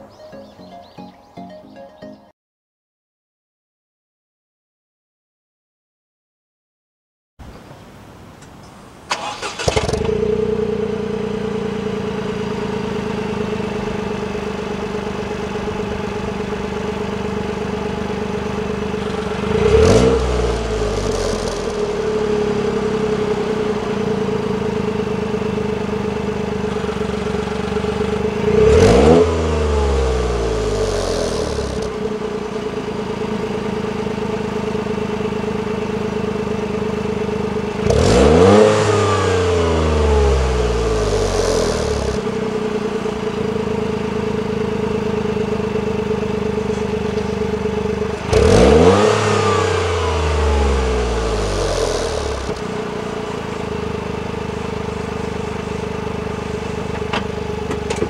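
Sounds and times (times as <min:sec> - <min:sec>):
car engine idling and revving: 0:09.1 - 0:58.0.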